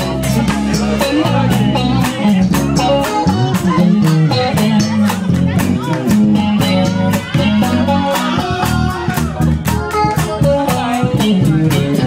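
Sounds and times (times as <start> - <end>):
bass guitar: 0.0 - 12.0
drum kit beat: 0.0 - 12.0
electric guitar lead: 0.0 - 12.0.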